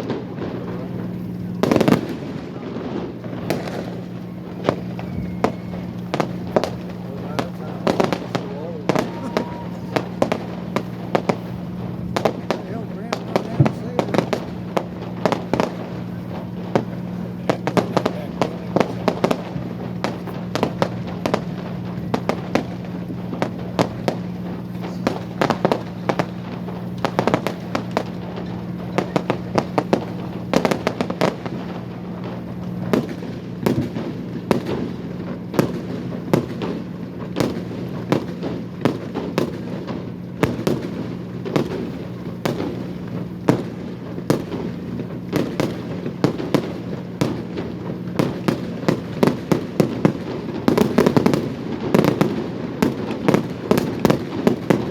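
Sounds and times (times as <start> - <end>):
fireworks bangs and pops: 0.0 - 54.9
steady low hum: 0.0 - 54.9.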